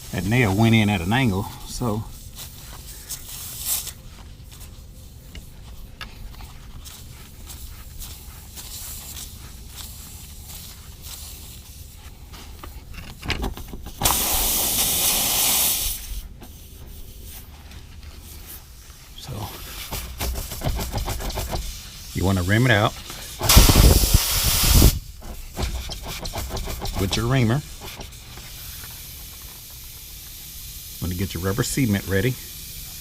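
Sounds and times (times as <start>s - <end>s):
air hissing from tire: 0.0s - 4.0s, 4.7s - 12.9s, 13.6s - 33.0s.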